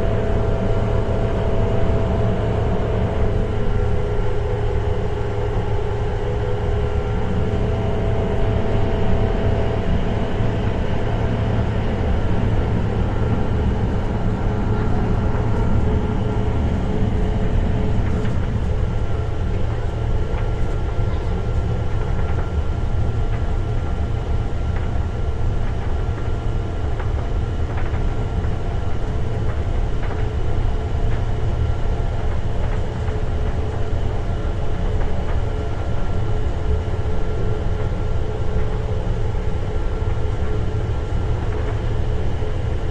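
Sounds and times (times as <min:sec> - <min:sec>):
train rumbling at speed: 0:00.0 - 0:42.9.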